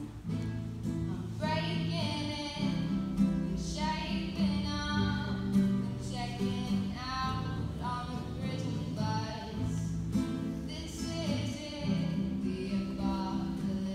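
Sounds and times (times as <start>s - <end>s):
strummed acoustic string instrument: 0.0s - 13.9s
girl singing: 1.1s - 10.0s, 10.6s - 13.9s.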